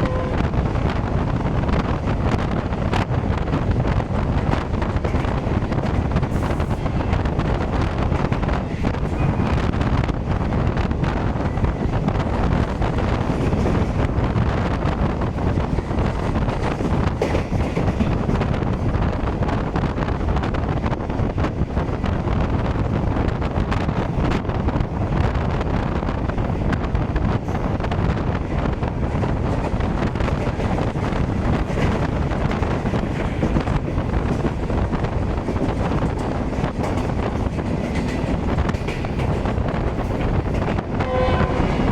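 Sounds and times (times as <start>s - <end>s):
train rumbling past: 0.0s - 41.9s
wind buffeting microphone: 0.0s - 41.9s.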